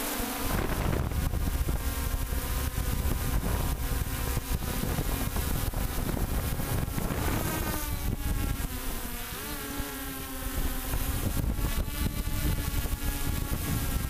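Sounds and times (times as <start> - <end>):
drone motors buzzing: 0.0 - 14.0
wind buffeting microphone: 0.4 - 9.2, 10.1 - 14.0.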